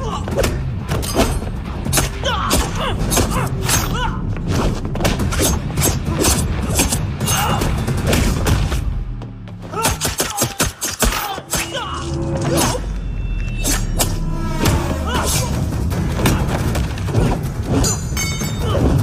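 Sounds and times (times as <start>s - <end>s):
low background score: 0.0s - 19.0s.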